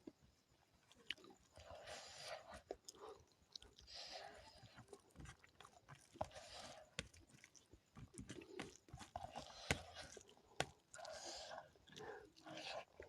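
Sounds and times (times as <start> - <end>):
person chewing food: 0.8 - 13.0.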